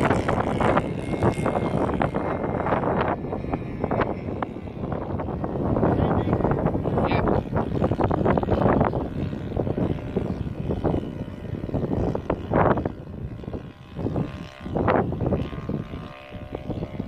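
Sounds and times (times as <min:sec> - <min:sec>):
distant model airplane engine: 0:00.0 - 0:17.0
wind buffeting microphone: 0:00.0 - 0:17.0.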